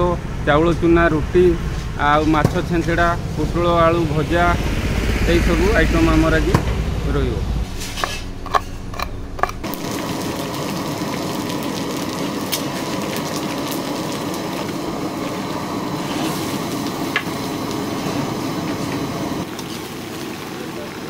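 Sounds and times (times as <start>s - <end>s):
stove burner roaring: 0.0s - 21.0s.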